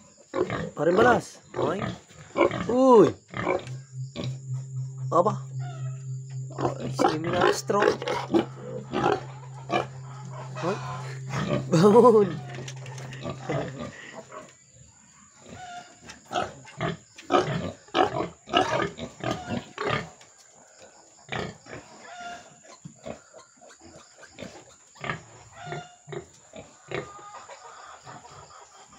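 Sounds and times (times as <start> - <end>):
pigs grunting and squealing: 0.0 - 4.4, 5.2 - 14.6, 15.3 - 20.2, 21.2 - 28.9.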